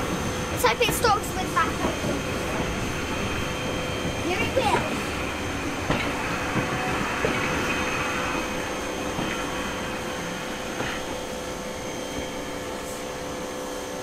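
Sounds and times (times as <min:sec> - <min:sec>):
train rolling slowly: 0:00.0 - 0:14.0.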